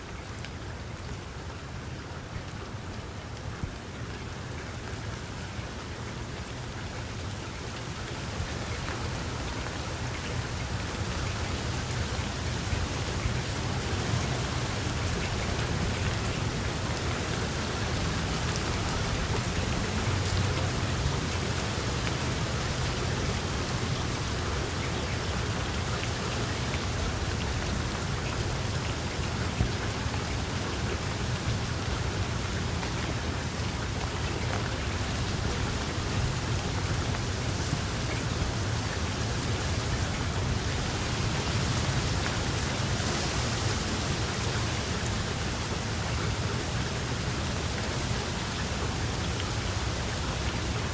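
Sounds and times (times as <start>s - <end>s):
dense rainfall: 0.0s - 50.9s.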